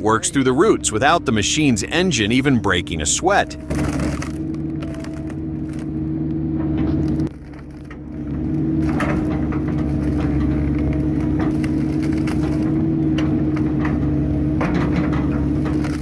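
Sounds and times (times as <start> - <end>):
excavator engine and hydraulics: 0.0 - 16.0
wood cracking and splintering: 0.0 - 16.0.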